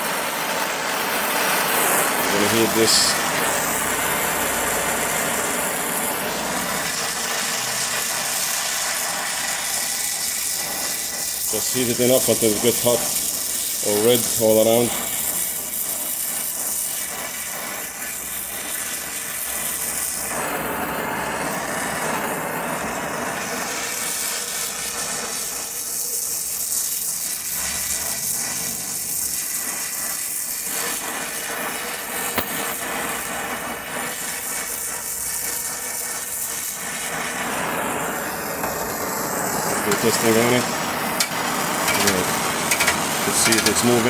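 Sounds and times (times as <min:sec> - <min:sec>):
gas torch flame hissing: 0:00.0 - 0:44.0.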